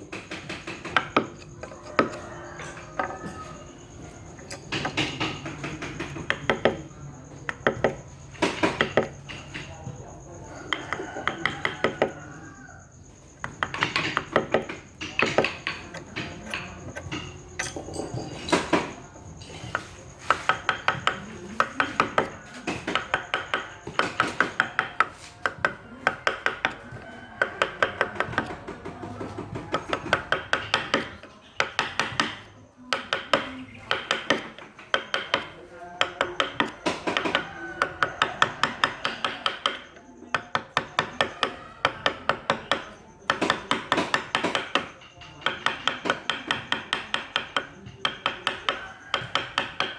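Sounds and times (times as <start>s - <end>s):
mallet tapping chisel into wood: 0.1s - 3.4s, 4.0s - 12.4s, 13.3s - 49.9s.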